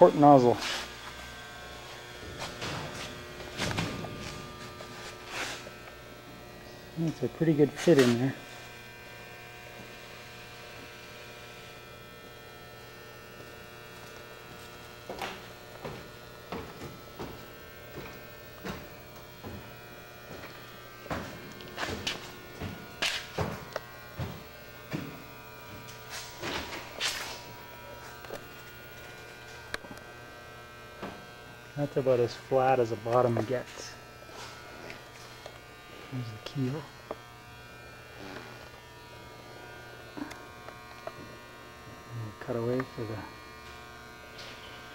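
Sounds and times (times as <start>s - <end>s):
steady electrical hum: 0.0s - 44.9s.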